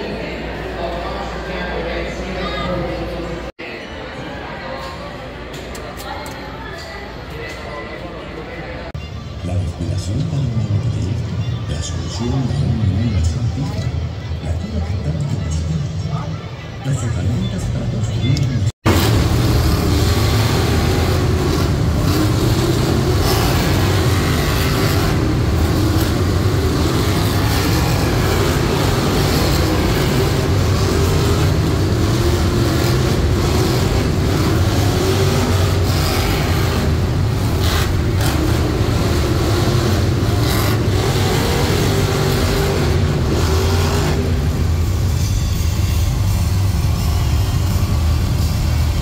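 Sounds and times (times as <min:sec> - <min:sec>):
monster truck engines revving: 0:06.8 - 0:49.0.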